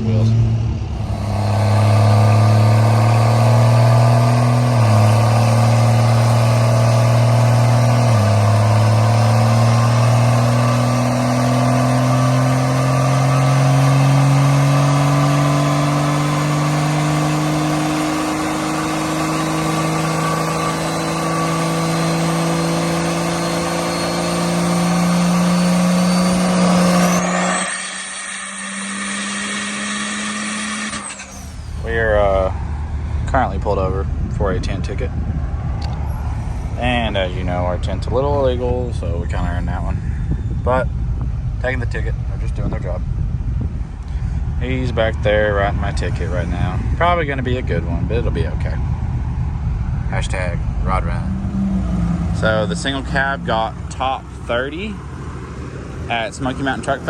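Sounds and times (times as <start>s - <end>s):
high tone sweeping up: 0.0s - 55.0s
vehicle engine accelerating: 0.0s - 57.0s.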